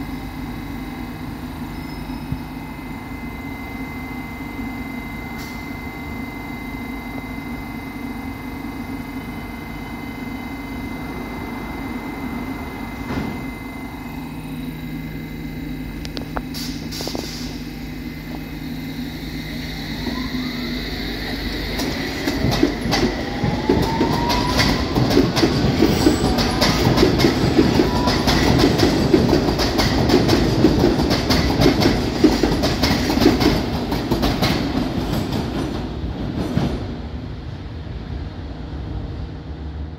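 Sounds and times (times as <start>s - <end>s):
train traction motors whining: 0.0s - 35.0s.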